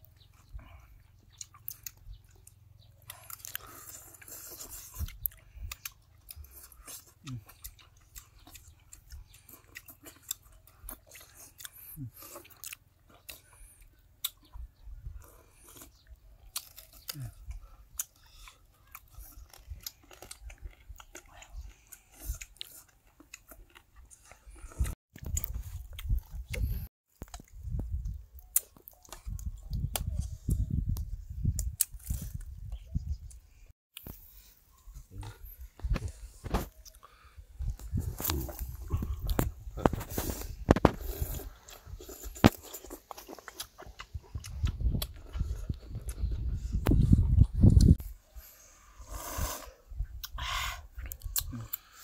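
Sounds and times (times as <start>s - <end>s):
person chewing food: 0.0s - 30.6s, 33.9s - 48.4s, 49.0s - 52.0s.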